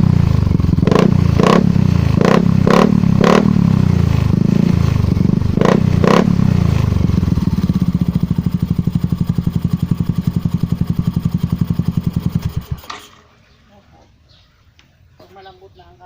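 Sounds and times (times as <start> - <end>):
scooter engine revving and idling: 0.0 - 13.2.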